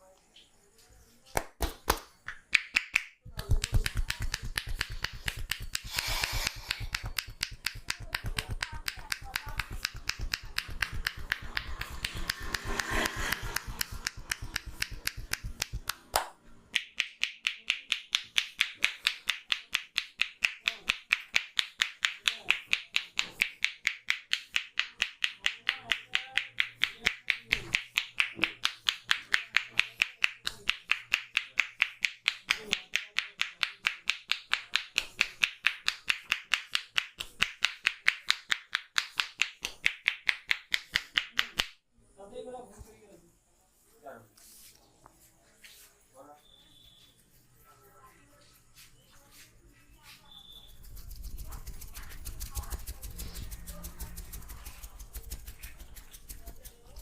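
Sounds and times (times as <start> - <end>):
hands clapping and tapping on head: 1.3 - 41.8, 50.6 - 57.0.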